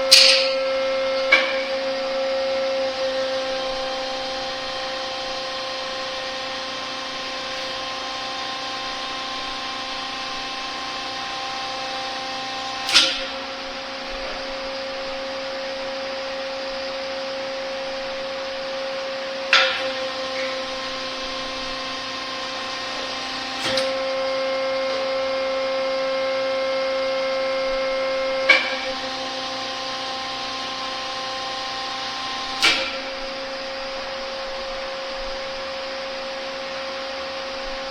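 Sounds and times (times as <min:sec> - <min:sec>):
hydraulic cylinder clunks: 0:00.0 - 0:16.8, 0:17.5 - 0:25.8, 0:27.4 - 0:36.0
hydraulic pump humming: 0:00.0 - 0:37.9.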